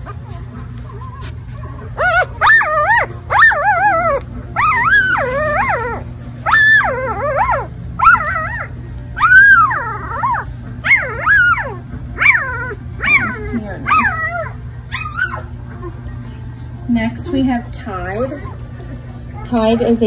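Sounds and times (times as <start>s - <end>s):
puppy whining and crying: 0.0s - 16.6s.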